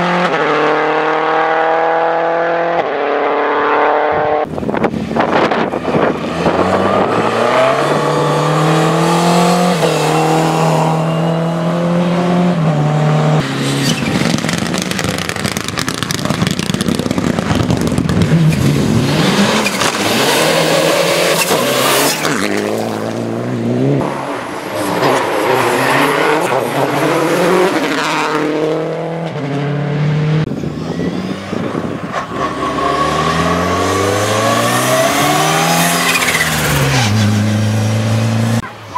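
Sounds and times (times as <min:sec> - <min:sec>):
rally car engines at full throttle: 0:00.0 - 0:38.9.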